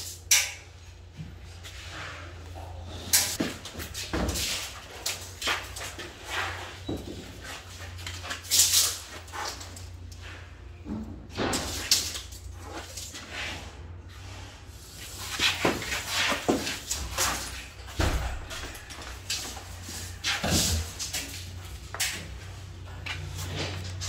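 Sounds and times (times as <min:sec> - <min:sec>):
building work scrapes and knocks: 0:00.0 - 0:24.0.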